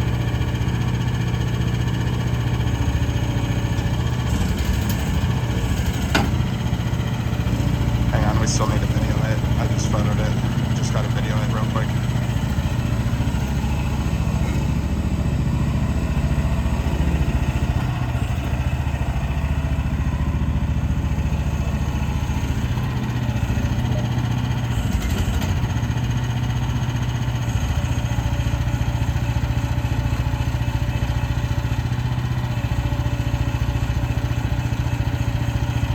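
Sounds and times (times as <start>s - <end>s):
gas engine running steadily: 0.0s - 35.9s.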